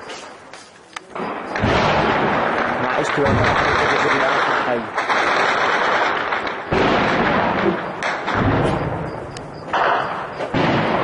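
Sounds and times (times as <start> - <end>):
explosions with rumbling echo: 1.1 - 11.0
sharp gunfire cracks: 1.1 - 11.0.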